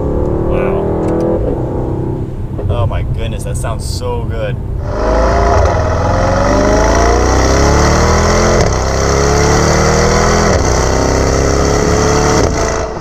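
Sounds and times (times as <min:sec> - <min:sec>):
car engine accelerating: 0:00.0 - 0:04.0, 0:04.6 - 0:13.0.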